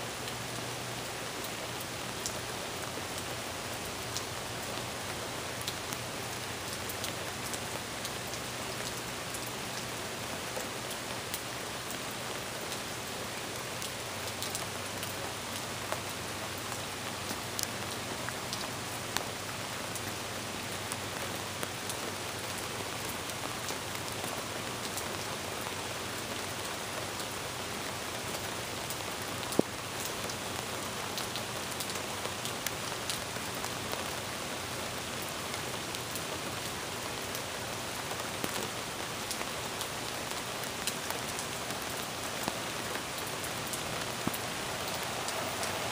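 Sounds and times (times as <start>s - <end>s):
rain on a windshield: 1.2s - 45.9s.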